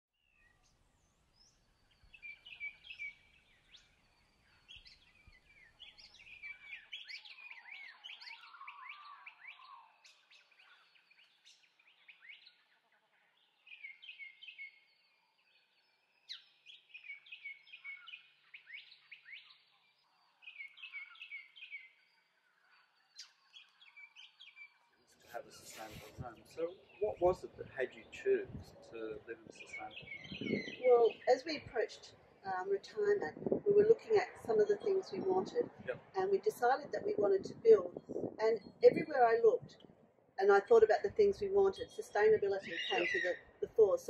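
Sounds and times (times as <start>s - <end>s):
small birds chirping: 0.2s - 44.0s.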